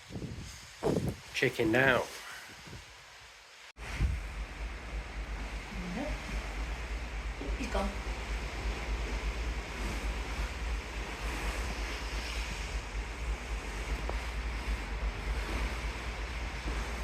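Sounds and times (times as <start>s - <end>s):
wind buffeting microphone: 0.0s - 3.0s, 3.8s - 17.0s
open sea washing: 0.0s - 17.0s.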